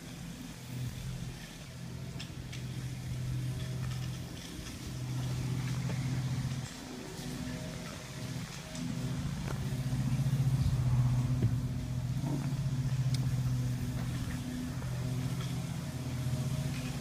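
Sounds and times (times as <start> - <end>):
motor humming with fast pulse: 0.0 - 17.0.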